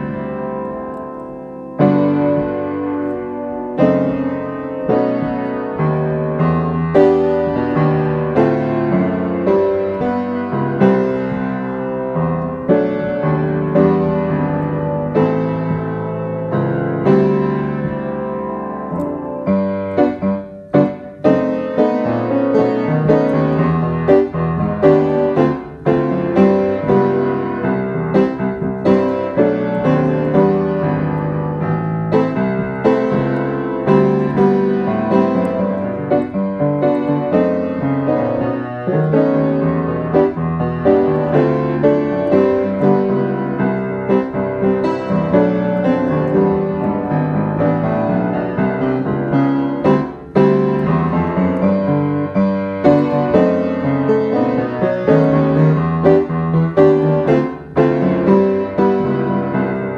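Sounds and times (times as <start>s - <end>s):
solo piano music: 0.0s - 59.9s.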